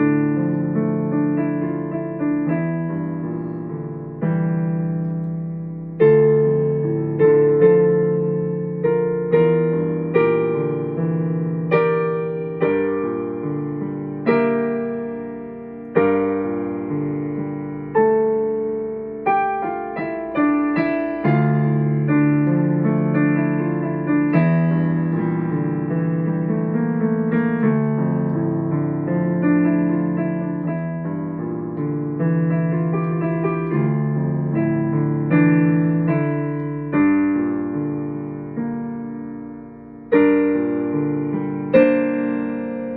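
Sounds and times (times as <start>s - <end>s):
solo piano playing: 0.0s - 42.9s.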